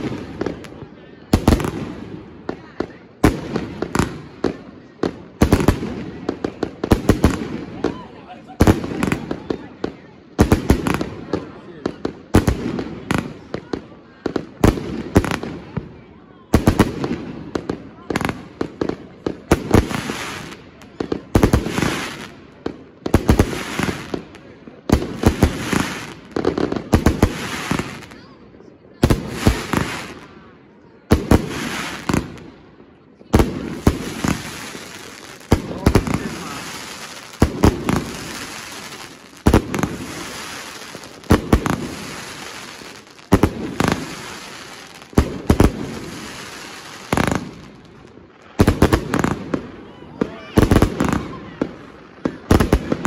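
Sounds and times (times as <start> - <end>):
firework bangs: 0.0 - 15.9, 16.5 - 28.3, 29.0 - 30.4, 31.1 - 53.0
firework stars crackling: 0.0 - 30.5, 31.1 - 53.0.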